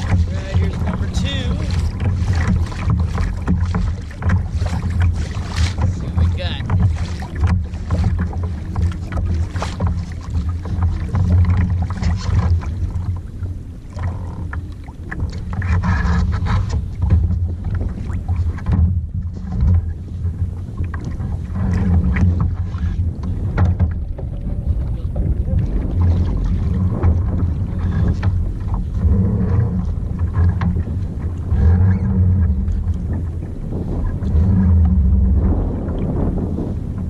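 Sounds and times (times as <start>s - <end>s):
water splashing against kayak: 0.0s - 37.0s
wind buffeting microphone: 0.0s - 37.0s.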